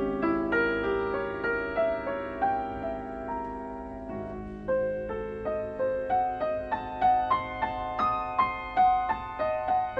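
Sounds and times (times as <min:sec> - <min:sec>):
piano melody: 0:00.0 - 0:09.9.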